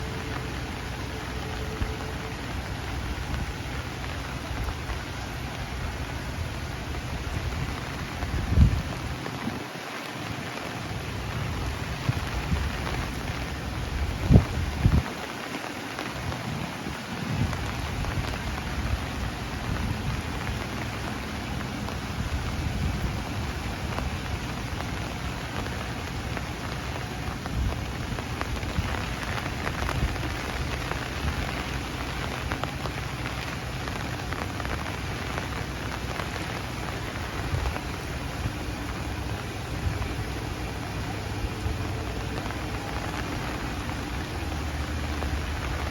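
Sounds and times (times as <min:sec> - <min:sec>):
rain falling on leaves: 0:00.0 - 0:45.9.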